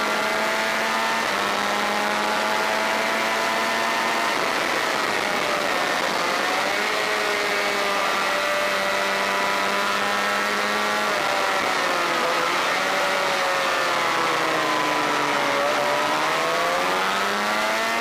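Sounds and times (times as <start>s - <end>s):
race bike engine running hard: 0.0s - 18.0s.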